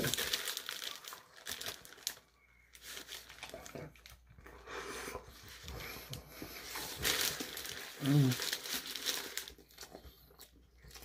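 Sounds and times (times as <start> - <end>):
paper wrapper crinkling: 0.0 - 4.5, 5.3 - 11.0.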